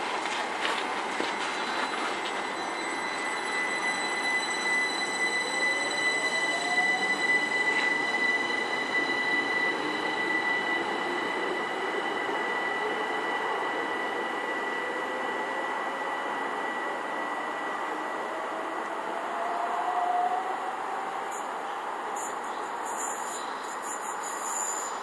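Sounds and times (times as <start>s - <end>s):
wheels rumbling on rails: 0.0s - 25.0s
electric train motors whining: 0.7s - 21.5s
steady high whine: 0.7s - 25.0s.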